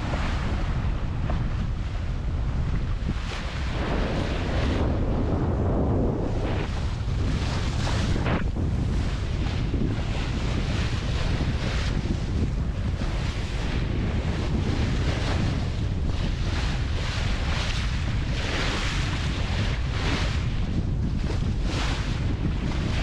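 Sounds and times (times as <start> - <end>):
bow wave splashing along hull: 0.0 - 23.0
wind buffeting microphone: 0.0 - 23.0.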